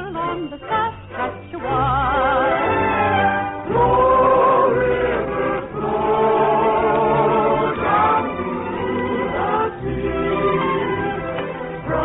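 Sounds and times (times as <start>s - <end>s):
chorus singing held notes: 0.0s - 12.0s.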